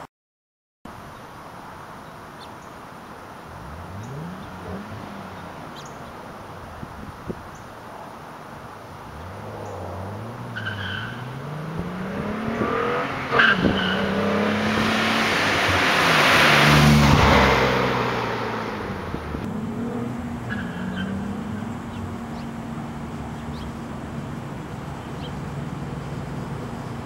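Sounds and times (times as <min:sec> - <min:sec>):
car accelerating and shifting: 0:03.2 - 0:27.0.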